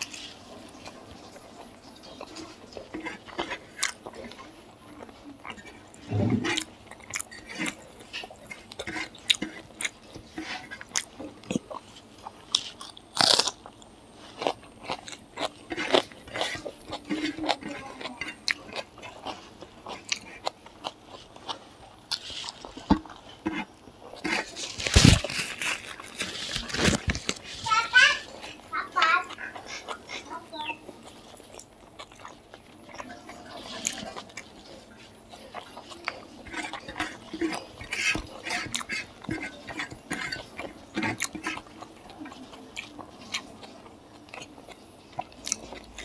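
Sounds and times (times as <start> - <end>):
chewing with crunching: 0.0 - 46.0.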